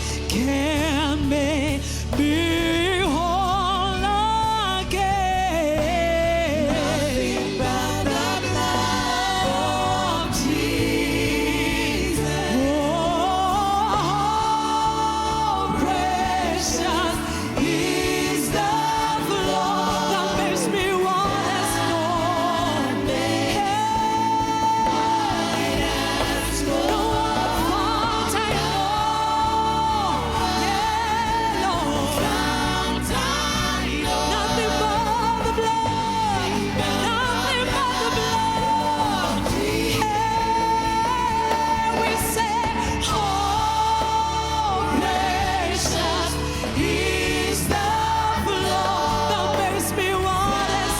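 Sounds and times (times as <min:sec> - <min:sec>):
gospel band playing: 0:00.0 - 0:50.9
vocalists singing held notes: 0:05.8 - 0:50.9.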